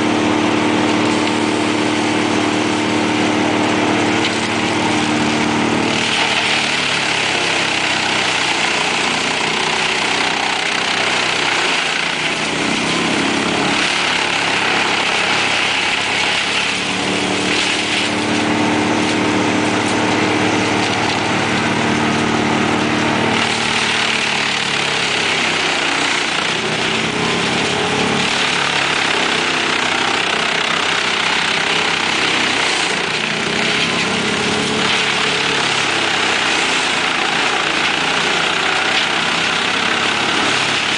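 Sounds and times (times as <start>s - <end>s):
wood chipper engine drone: 0.0s - 40.9s.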